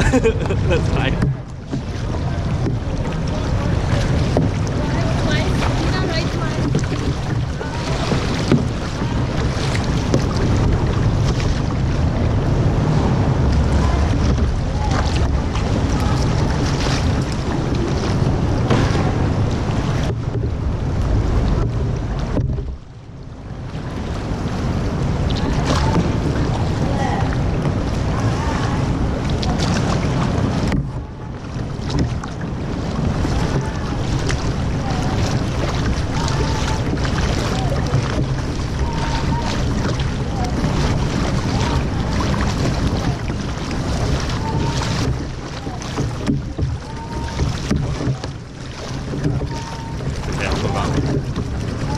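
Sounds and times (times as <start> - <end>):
paddle splashes: 0.0 - 51.9
water: 0.0 - 51.9
wind buffeting microphone: 0.0 - 51.9.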